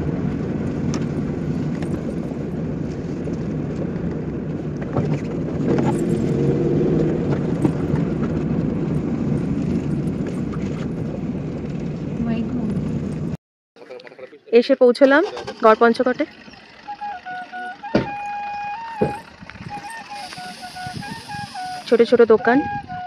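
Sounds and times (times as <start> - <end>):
car engine and tyre noise: 0.0 - 13.4, 15.2 - 22.2.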